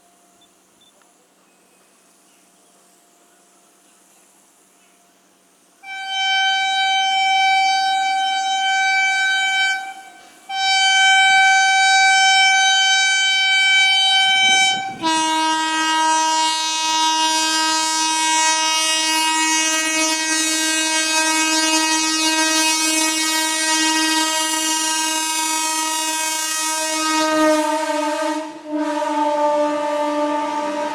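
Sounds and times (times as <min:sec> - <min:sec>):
high-pitched train horn: 0:05.8 - 0:30.9
lower-pitched train horn: 0:05.8 - 0:30.9.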